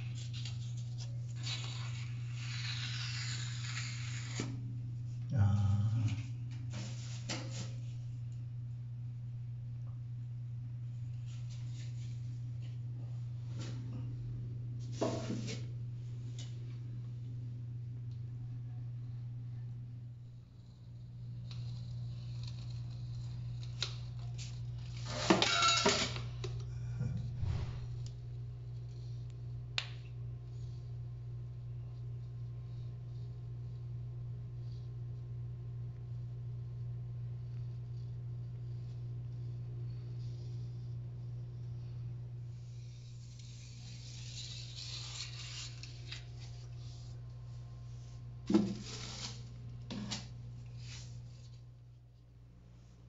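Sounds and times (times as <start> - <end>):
low hum: 0.0 - 24.8, 26.2 - 53.0.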